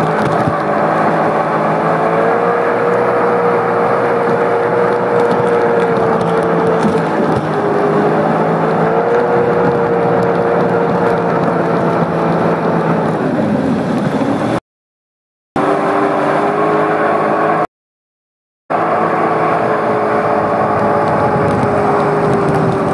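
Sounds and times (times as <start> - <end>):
water rushing: 0.0 - 14.6, 15.6 - 17.7, 18.7 - 22.9
watercraft engine running: 0.0 - 14.6, 15.6 - 17.7, 18.7 - 22.9.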